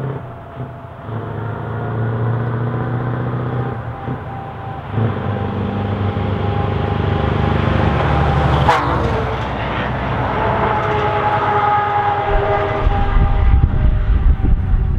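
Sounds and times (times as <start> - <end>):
truck passing by: 0.0 - 14.9.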